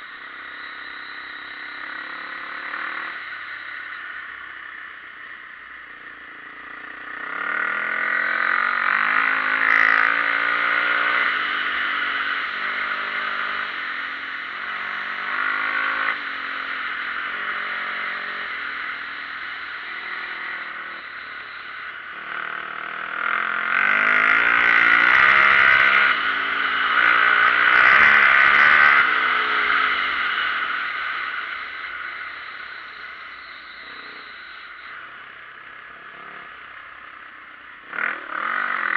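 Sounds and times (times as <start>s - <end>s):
dirt bike engine accelerating: 0.0s - 38.9s.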